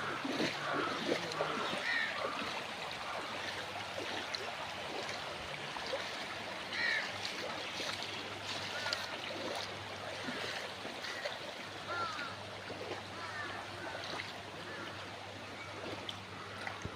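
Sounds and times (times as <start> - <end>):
floodwater rushing: 0.0 - 16.9.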